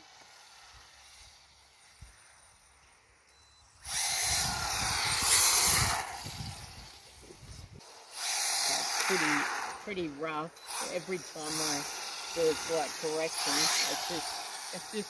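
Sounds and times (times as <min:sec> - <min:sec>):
rc car motor and tyres hissing: 0:00.0 - 0:15.0.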